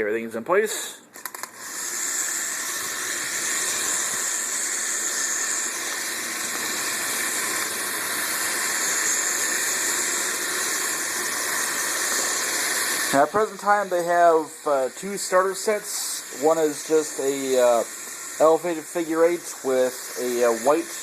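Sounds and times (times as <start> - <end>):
toy train motor whirring: 1.1 - 21.0.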